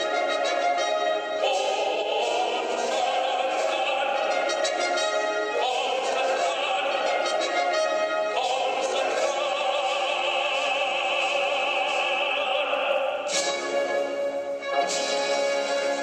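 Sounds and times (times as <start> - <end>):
tenor singing operatically: 0.0 - 14.0.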